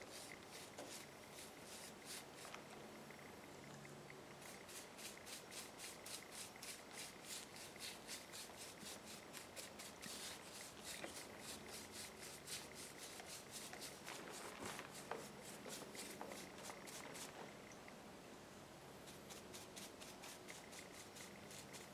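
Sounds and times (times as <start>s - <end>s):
brush strokes on wood: 0.0s - 3.2s, 4.2s - 17.7s, 19.0s - 21.9s.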